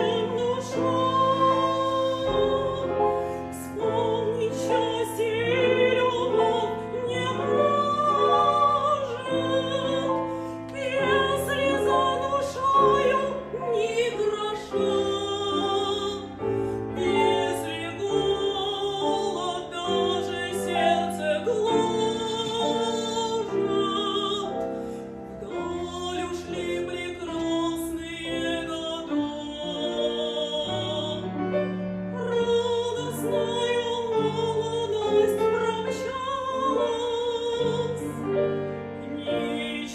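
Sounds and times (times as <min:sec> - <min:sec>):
piano accompaniment: 0:00.0 - 0:39.9
woman singing opera: 0:00.0 - 0:39.9.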